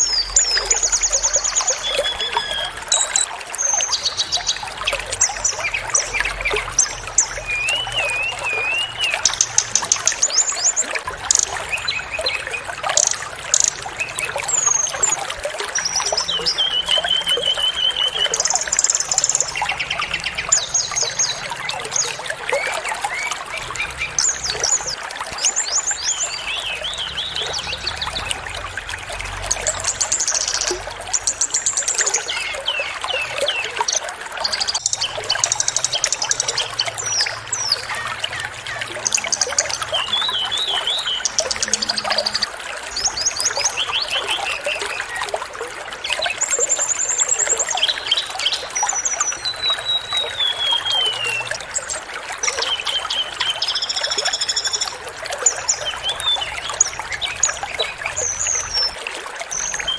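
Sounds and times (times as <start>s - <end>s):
songbirds chirping and trilling: 0.0s - 59.9s
trickling water: 0.0s - 59.9s.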